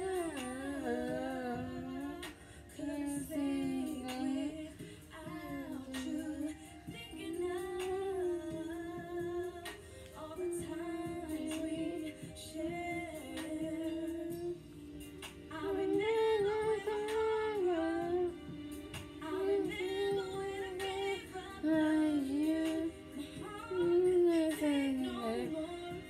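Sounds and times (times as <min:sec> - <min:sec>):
woman singing slow melody: 0:00.0 - 0:26.0.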